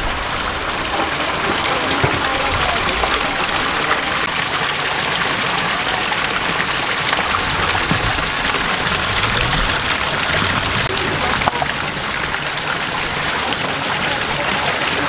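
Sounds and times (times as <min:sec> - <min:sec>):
water gushing from taps: 0:00.0 - 0:15.0
water splashing into tank: 0:00.0 - 0:15.0.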